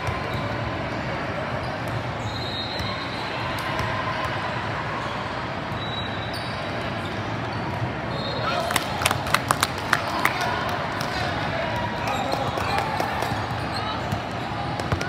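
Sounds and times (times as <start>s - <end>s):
gym hall background noise: 0.0s - 15.0s.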